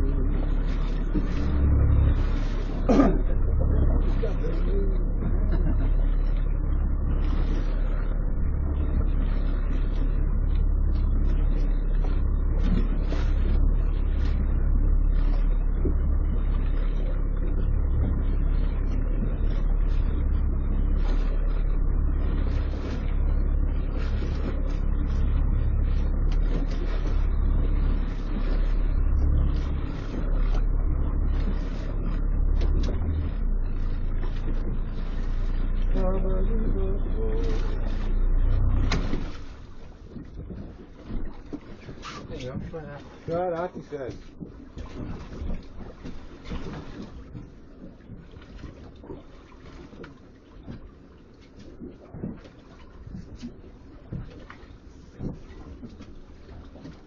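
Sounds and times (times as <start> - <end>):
boat engine rumbling: 0.0 - 57.0
wind and water hiss: 0.0 - 57.0.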